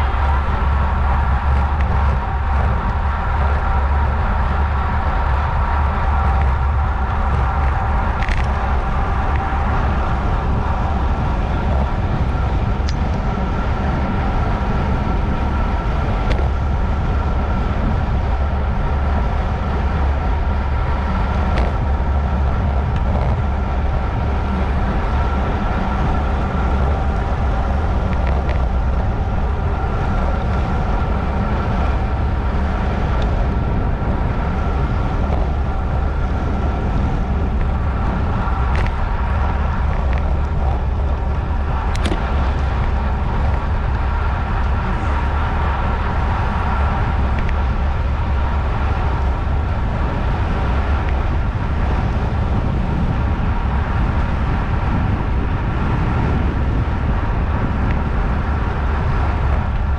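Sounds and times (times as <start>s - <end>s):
bike road noise: 0.0s - 59.9s
faint steady whir: 0.0s - 59.9s
wind rush on microphone: 0.0s - 59.9s.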